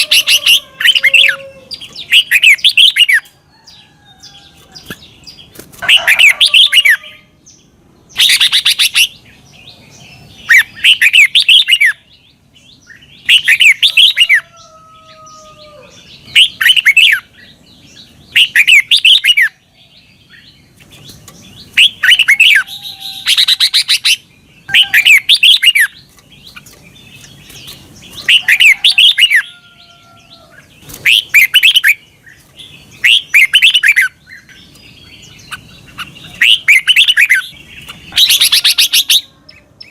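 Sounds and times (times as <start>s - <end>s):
bird singing chirpy song: 0.0s - 39.9s.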